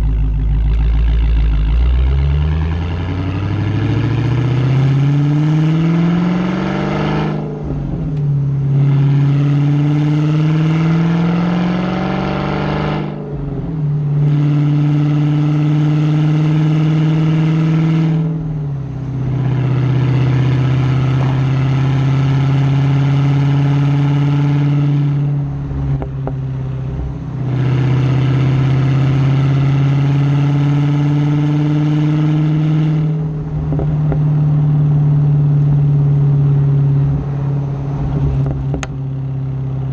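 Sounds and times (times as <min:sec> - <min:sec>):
car engine exhaust revving: 0:00.0 - 0:39.9.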